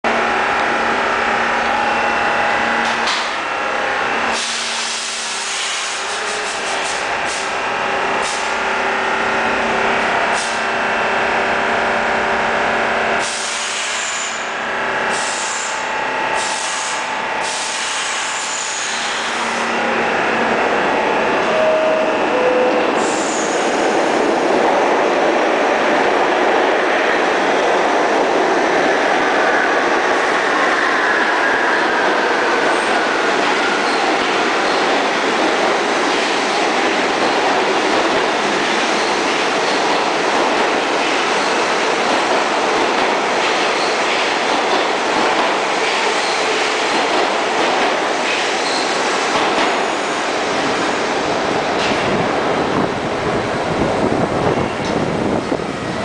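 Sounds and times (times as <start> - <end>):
subway train equipment hum: 0.0 - 56.0
train motors and wheels: 0.1 - 56.0.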